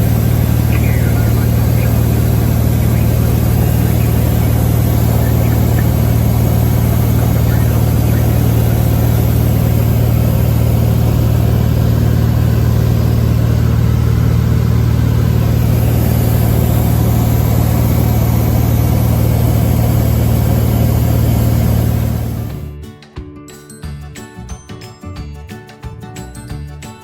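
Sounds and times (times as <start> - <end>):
propeller airplane engine drone: 0.0 - 22.7.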